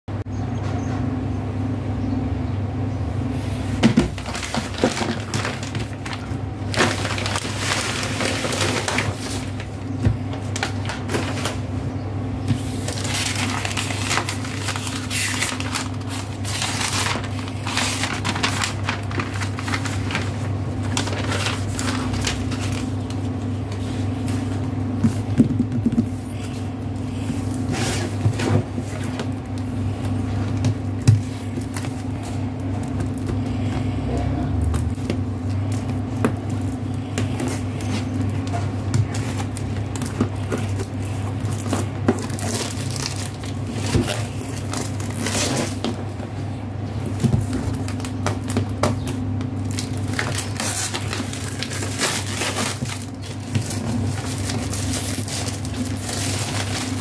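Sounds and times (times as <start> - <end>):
steady low hum: 0.1 - 57.0
plastic shrink wrap crinkling: 3.7 - 11.9, 12.5 - 34.0, 34.7 - 57.0.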